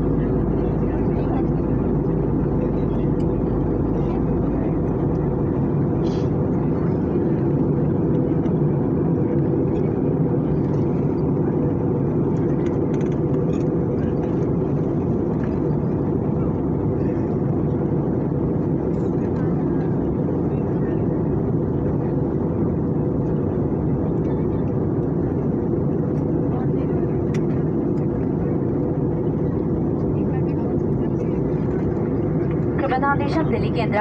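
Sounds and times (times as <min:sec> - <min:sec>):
airliner cabin roar: 0:00.0 - 0:34.0.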